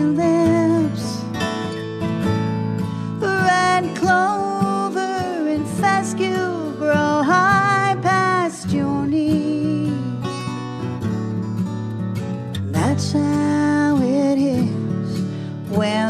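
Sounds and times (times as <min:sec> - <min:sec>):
lead acoustic guitar melody: 0:00.0 - 0:16.0
strummed rhythm guitar: 0:00.0 - 0:16.0.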